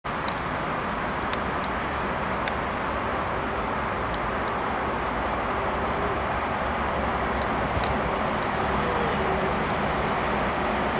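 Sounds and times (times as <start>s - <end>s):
freight train rumble: 0.1s - 10.9s.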